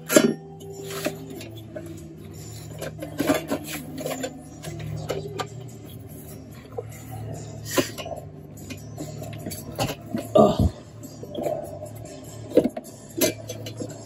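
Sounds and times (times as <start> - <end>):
low steady hum: 0.0 - 14.0
plastic and metal parts rattling: 0.0 - 14.0.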